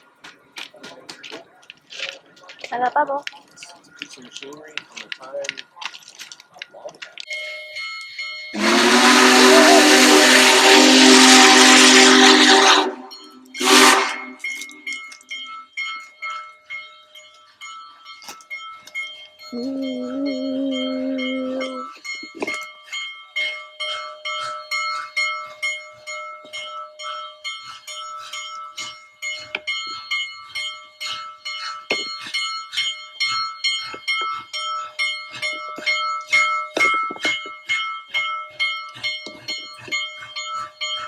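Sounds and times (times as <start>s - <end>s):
locomotive bell ringing: 2.6s - 41.0s.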